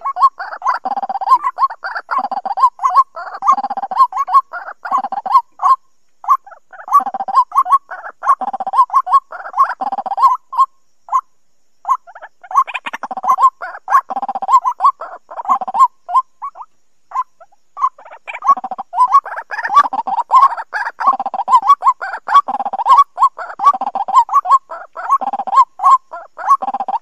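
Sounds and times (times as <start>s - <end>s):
bird harsh rapid calls: 0.0s - 11.2s, 11.8s - 27.0s.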